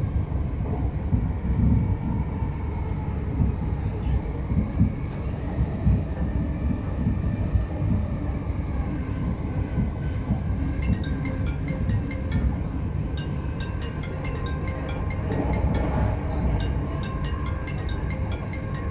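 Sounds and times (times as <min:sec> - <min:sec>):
faint train whine: 0:00.0 - 0:18.9.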